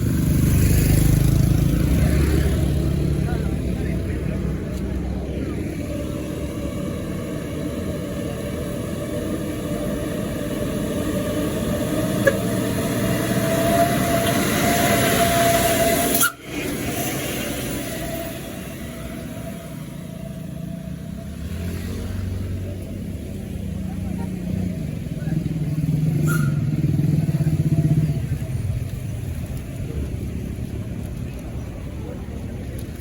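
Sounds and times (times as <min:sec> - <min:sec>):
vehicle engines running: 0:00.0 - 0:33.0
vehicle passing close: 0:00.0 - 0:33.0.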